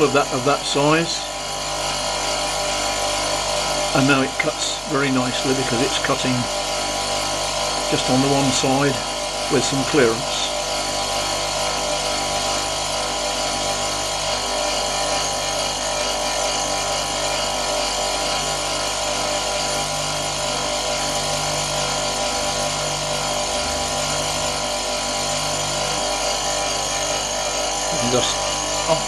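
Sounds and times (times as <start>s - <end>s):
grinder motor humming: 0.0s - 29.0s
tool boring wax: 0.0s - 29.0s.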